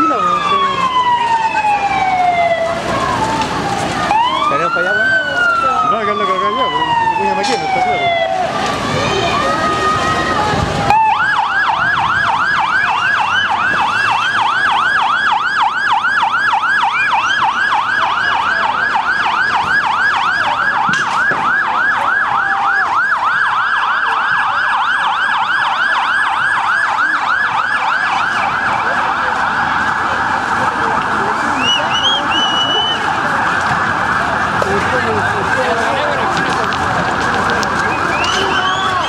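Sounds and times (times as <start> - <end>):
police siren yelping: 0.0 - 39.0.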